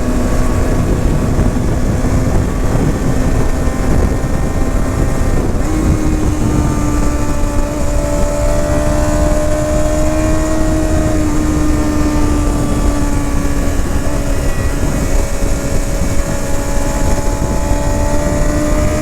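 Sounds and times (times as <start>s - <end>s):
motorcycle engine and exhaust: 0.0s - 19.0s
wind noise: 0.0s - 19.0s.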